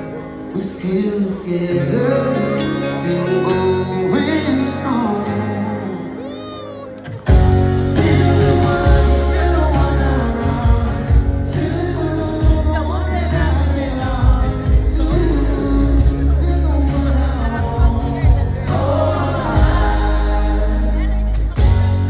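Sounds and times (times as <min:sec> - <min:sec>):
man singing pop ballad: 0:00.0 - 0:22.0
band playing with bass and drums: 0:01.7 - 0:22.0.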